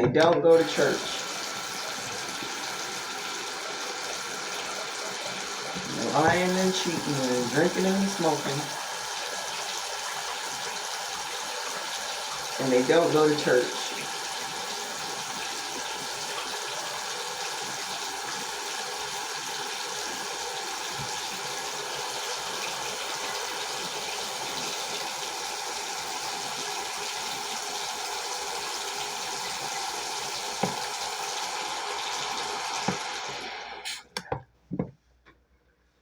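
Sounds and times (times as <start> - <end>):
water running: 0.0 - 34.4.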